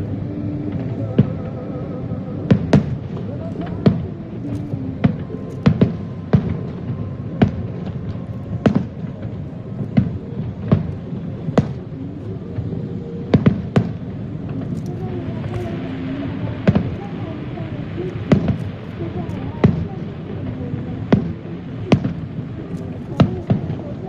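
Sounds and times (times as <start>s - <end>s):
background noise: 0.0s - 24.0s.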